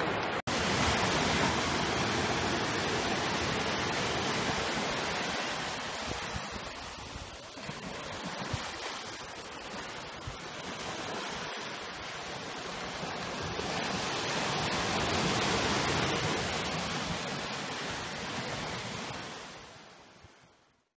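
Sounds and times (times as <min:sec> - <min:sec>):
waves washing up a sandy shore: 0:00.0 - 0:20.7.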